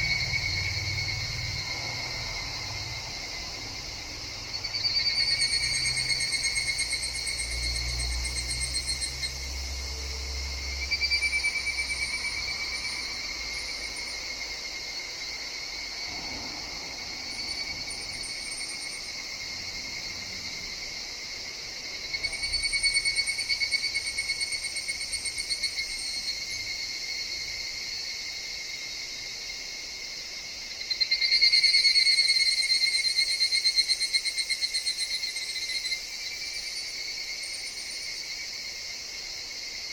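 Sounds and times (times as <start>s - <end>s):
cicadas trilling: 0.0s - 39.9s.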